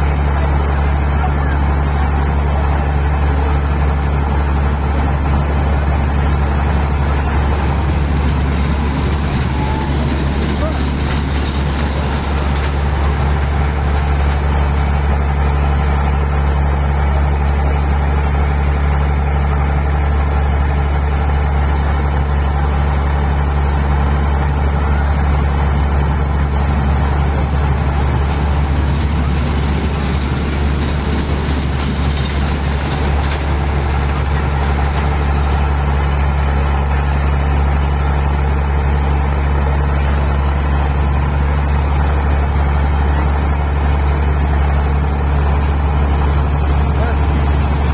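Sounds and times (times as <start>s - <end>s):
steady low engine drone: 0.0s - 47.9s.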